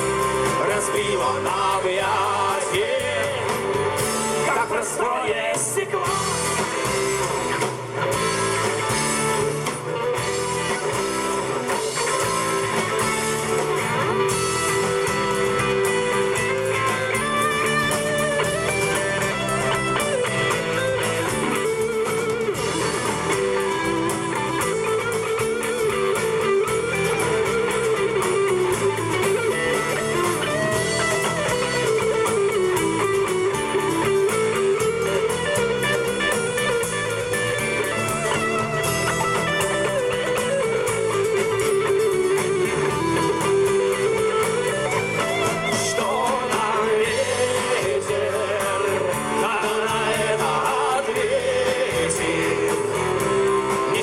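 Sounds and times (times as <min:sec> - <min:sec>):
electric guitar melody: 0:00.0 - 0:54.0
live rock band playing: 0:00.0 - 0:54.0.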